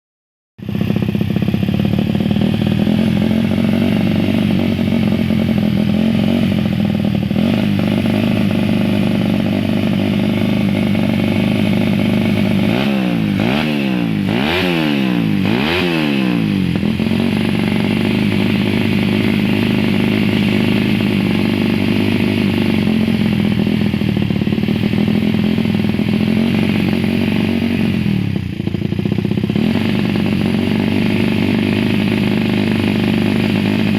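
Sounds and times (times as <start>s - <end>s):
motorcycle engine idling and revving: 0.6s - 33.9s.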